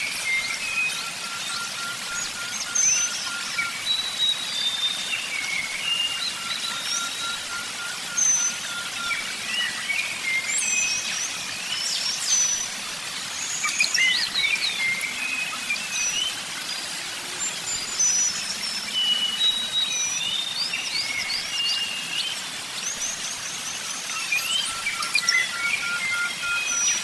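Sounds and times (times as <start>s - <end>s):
songbirds chirping and whistling: 0.0s - 16.8s, 17.4s - 27.0s.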